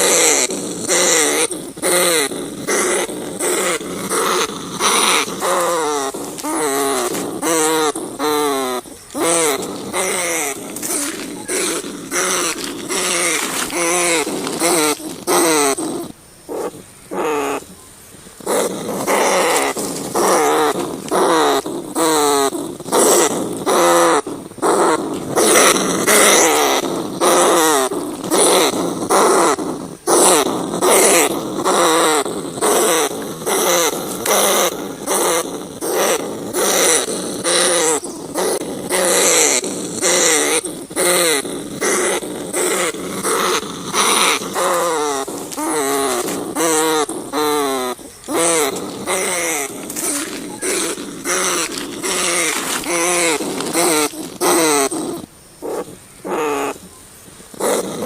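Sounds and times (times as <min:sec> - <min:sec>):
rats squealing: 0:00.0 - 0:58.0.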